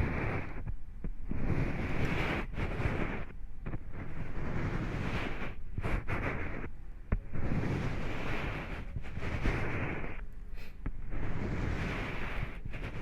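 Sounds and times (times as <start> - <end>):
rubbing and scratching: 0.0 - 13.0.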